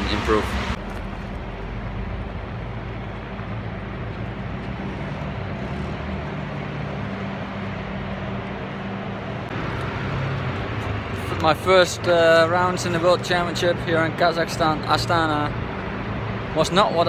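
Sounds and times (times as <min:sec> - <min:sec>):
constant rushing noise: 0:00.0 - 0:17.0.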